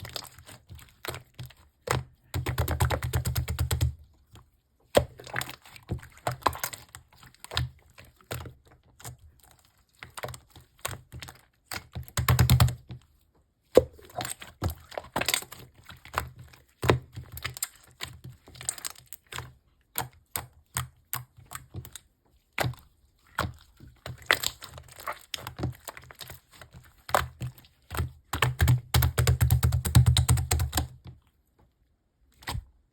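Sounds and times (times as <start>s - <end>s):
slime squishing: 0.0s - 31.4s.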